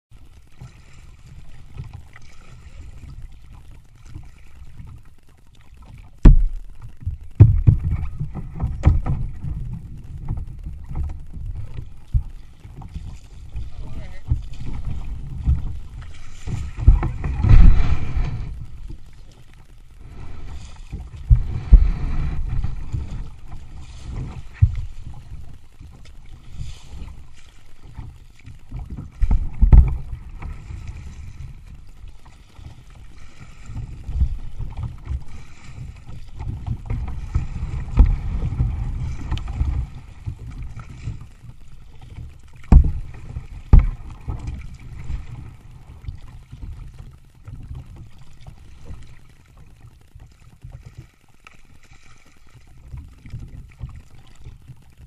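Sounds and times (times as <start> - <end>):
water rushing against a hull: 0.0 - 55.0.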